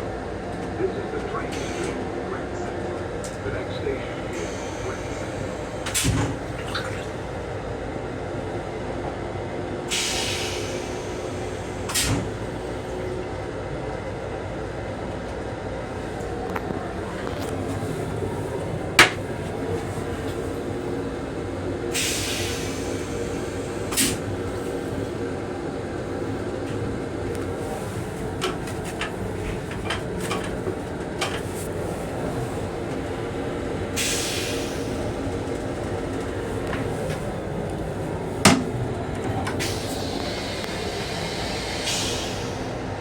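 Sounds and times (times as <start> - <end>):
railcar rumbling: 0.0 - 43.0.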